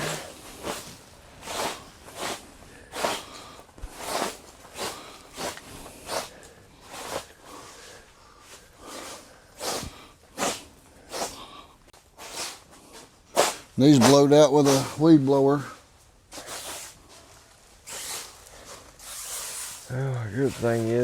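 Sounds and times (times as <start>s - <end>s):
broom sweeping floor: 0.0s - 21.0s.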